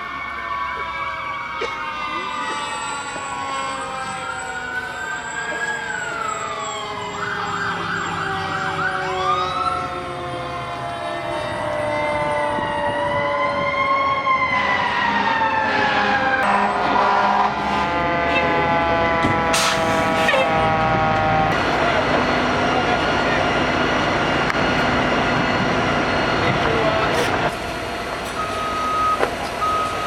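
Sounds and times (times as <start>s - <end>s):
emergency sirens wailing: 0.0s - 30.0s
siren yelp: 0.0s - 30.0s.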